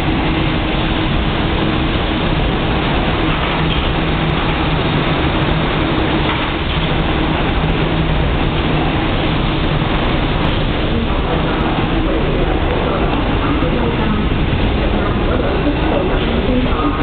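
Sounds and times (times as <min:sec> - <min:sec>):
low steady hum: 0:00.0 - 0:17.0
train wheels rumbling on rails: 0:00.0 - 0:17.0.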